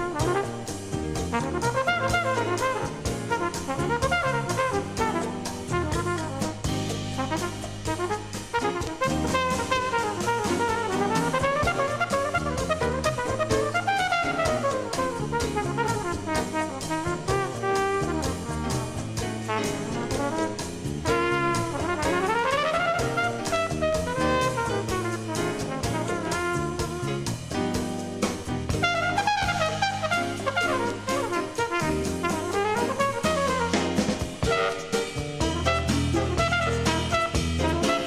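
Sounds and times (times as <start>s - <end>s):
big-band jazz from vinyl record: 0.0s - 38.0s.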